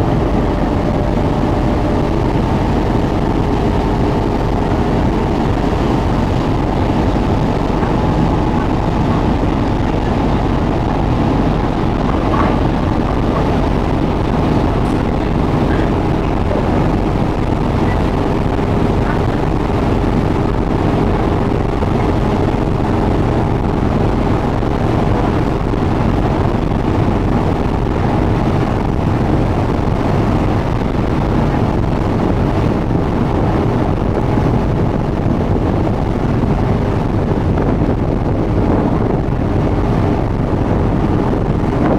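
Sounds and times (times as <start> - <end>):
boat engine droning: 0.0 - 41.9
wind buffeting microphone: 0.0 - 41.9.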